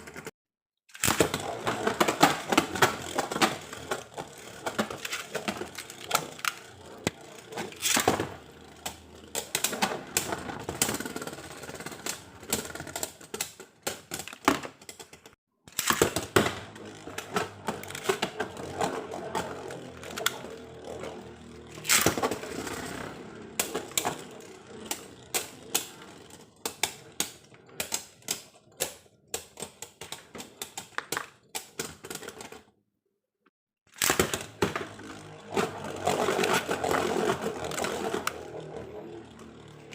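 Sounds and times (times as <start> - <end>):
plastic parts clicking and rattling: 0.9 - 32.7, 33.9 - 39.9.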